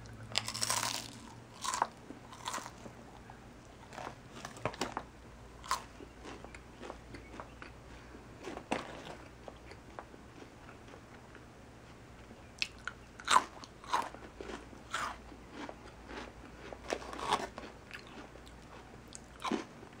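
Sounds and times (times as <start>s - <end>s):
crunchy bites and chewing: 0.3s - 2.9s, 3.7s - 5.0s, 5.6s - 7.8s, 8.4s - 11.4s, 12.6s - 19.7s.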